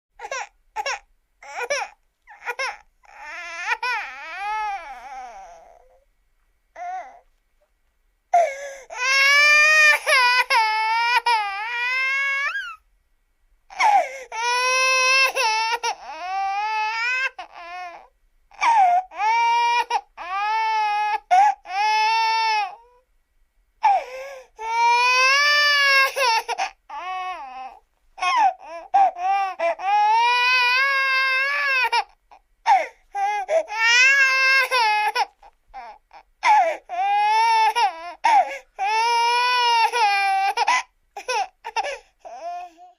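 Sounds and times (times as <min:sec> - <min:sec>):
baby crying: 0:00.2 - 0:06.0, 0:06.8 - 0:07.3, 0:08.4 - 0:12.8, 0:13.7 - 0:23.0, 0:23.8 - 0:42.9.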